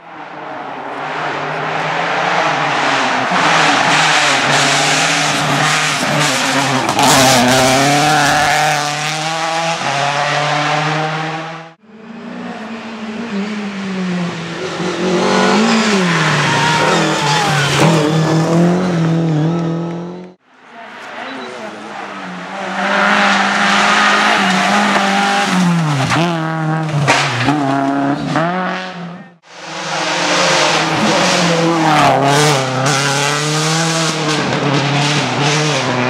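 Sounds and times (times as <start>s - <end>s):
rally car engines at full effort: 0.0s - 36.0s.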